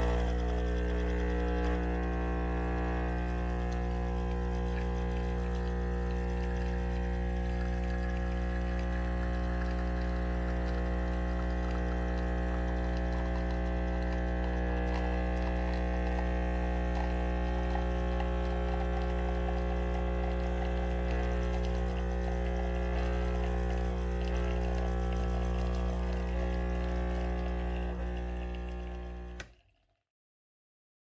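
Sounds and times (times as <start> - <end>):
espresso machine pump buzzing: 0.0 - 29.5
espresso pouring: 0.0 - 29.6.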